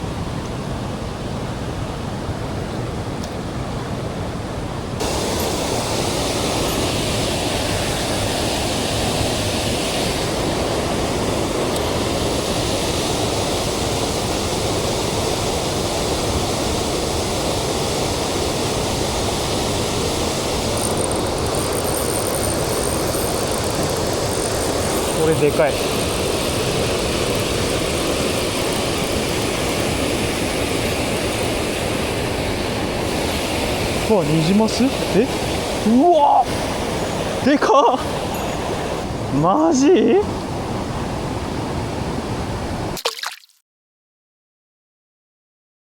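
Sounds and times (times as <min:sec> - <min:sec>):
stream rushing over rocks: 0:00.1 - 0:43.4.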